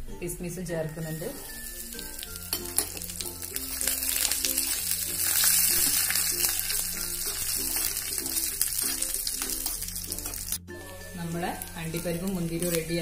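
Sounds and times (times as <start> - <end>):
nuts frying in hot fat: 1.4 - 10.6, 11.5 - 13.0.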